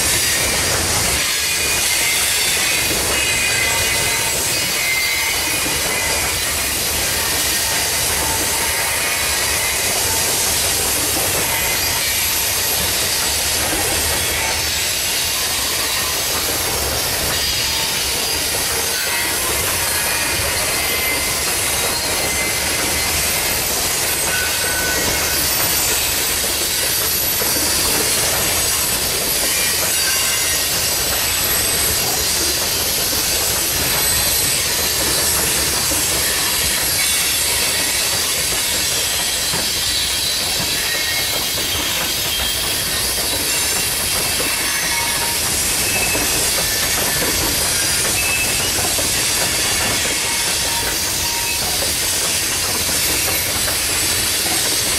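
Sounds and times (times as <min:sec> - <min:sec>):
high wheel squeals: 0:00.0 - 0:54.9
steel wheels rolling on rail: 0:00.0 - 0:54.9.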